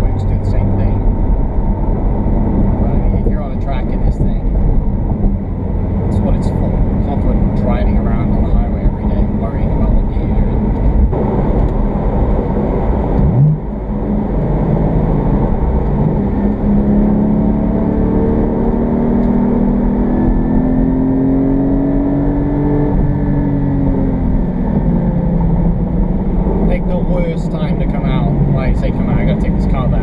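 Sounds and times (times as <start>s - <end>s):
car engine revving: 0.0s - 30.0s
road rumble: 0.0s - 30.0s.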